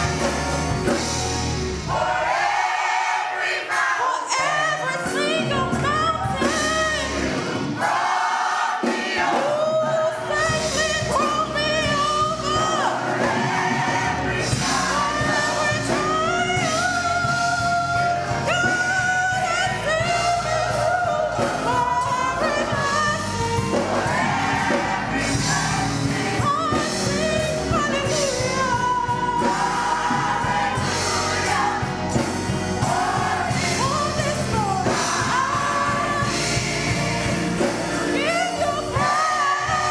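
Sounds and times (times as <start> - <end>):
instrumental accompaniment: 0.0 - 2.7, 3.4 - 39.9
voices singing gospel: 0.0 - 39.9.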